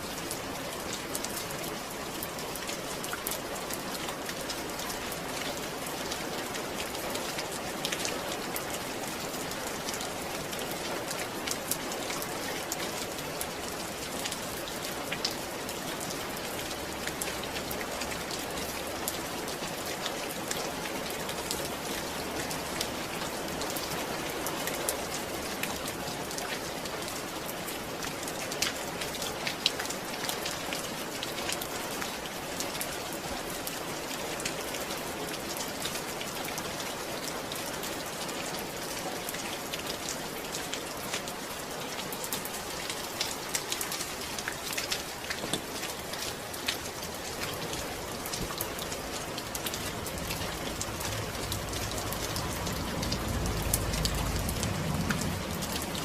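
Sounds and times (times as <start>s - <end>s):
raindrops ticking on a surface: 0.0s - 56.0s
steady rainfall hiss: 0.0s - 56.0s.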